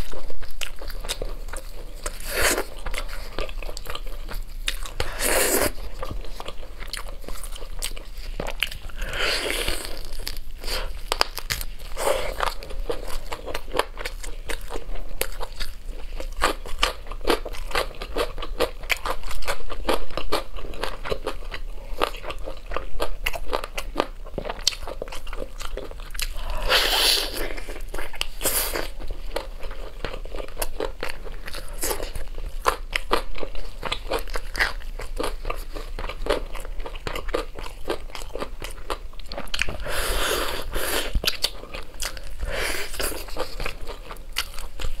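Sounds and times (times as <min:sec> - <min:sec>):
chewing on ribs: 0:00.0 - 0:45.0.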